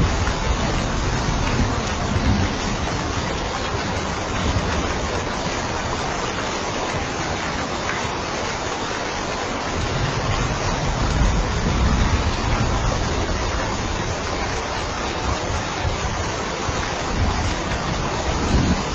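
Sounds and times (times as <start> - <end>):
steady rain hiss: 0.0 - 18.9.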